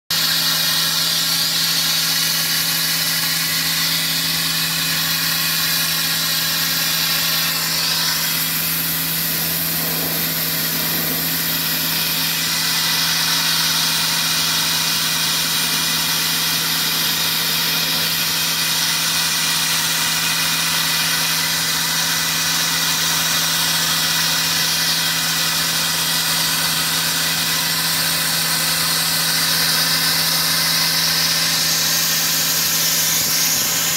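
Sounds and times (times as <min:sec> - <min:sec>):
engine drone: 0:00.1 - 0:33.9
sandblast stream hissing: 0:00.2 - 0:33.9.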